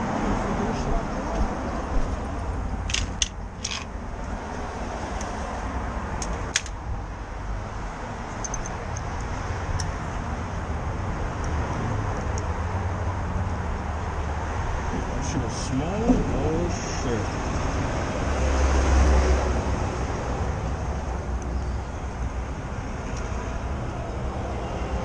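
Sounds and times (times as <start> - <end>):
city street traffic rumble: 0.0 - 25.0.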